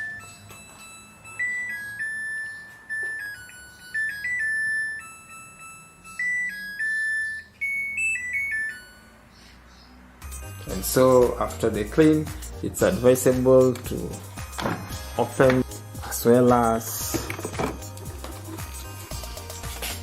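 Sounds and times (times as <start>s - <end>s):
washing machine beeper melody: 0.0s - 19.8s.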